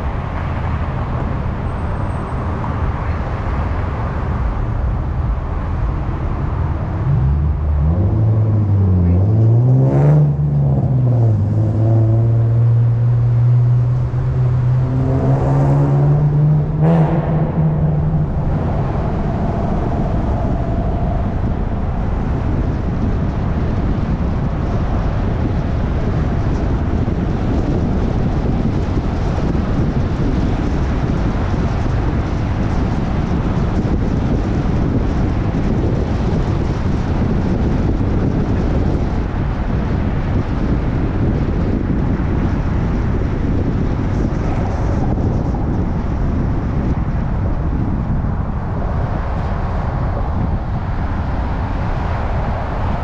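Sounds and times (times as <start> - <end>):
tyres rumbling on pavement: 0.0 - 53.0
wind noise: 0.0 - 53.0.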